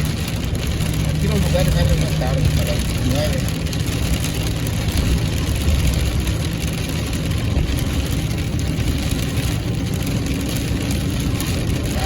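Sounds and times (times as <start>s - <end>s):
engine and road rumble: 0.0s - 12.0s
tyres hissing on wet road: 0.0s - 12.0s.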